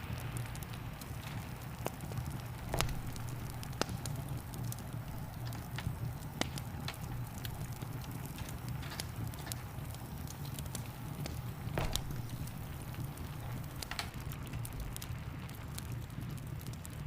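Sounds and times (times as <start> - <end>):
soft hiss of rain: 0.0 - 17.0
wood fire crackling and popping: 0.0 - 17.0
steady low rumble: 2.1 - 16.4.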